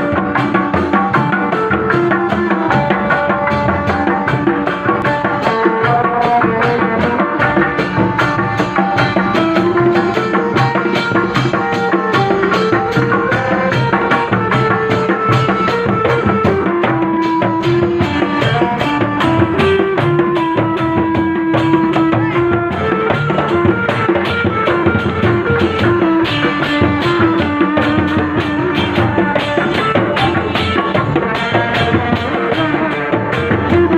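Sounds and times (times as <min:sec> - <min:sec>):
drums beating fast rhythm: 0:00.0 - 0:33.9.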